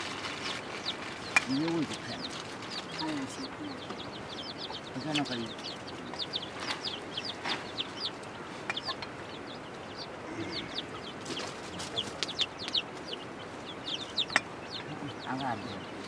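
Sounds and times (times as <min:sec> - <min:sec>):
chicks peeping: 0:00.0 - 0:16.0
hen clucking: 0:00.0 - 0:16.0.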